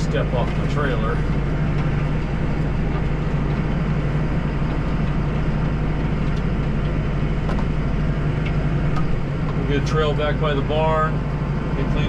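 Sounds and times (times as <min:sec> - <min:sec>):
tractor engine and snowblower drone: 0:00.0 - 0:12.0.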